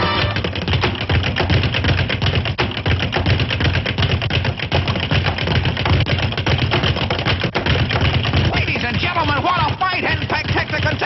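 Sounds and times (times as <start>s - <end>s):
cartoon punch thumps: 0.0s - 11.0s.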